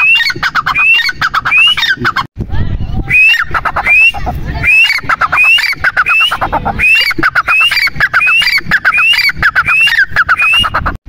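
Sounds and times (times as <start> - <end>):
francolin calling: 0.0 - 2.1, 3.1 - 10.7.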